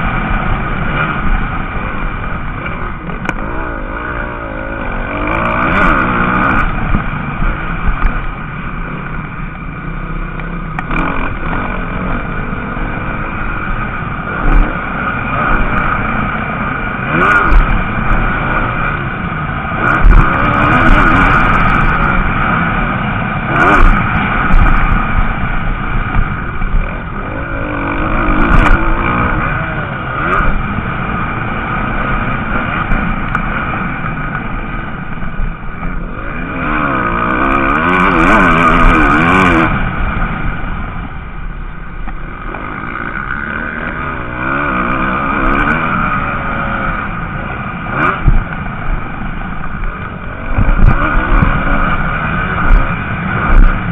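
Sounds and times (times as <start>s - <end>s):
motocross bikes revving: 0.0s - 53.9s.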